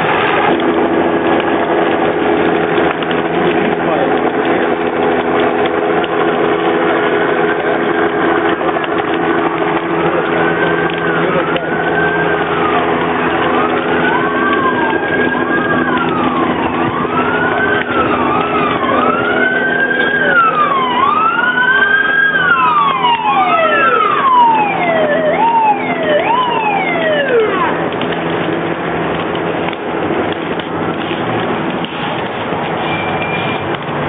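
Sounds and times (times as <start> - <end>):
truck engine running: 0.0 - 32.8
fire engine sirens wailing: 0.0 - 34.0.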